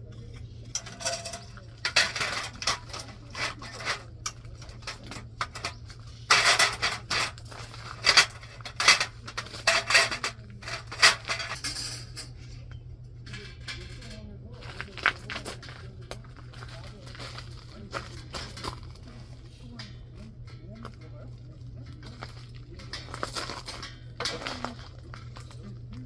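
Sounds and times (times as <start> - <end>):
objects scraping and clinking: 0.0 - 26.0
steady low hum: 0.0 - 26.0.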